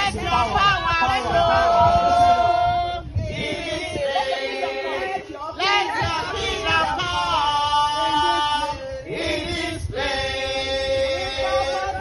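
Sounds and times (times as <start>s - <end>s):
group singing gospel chorus: 0.0s - 12.0s.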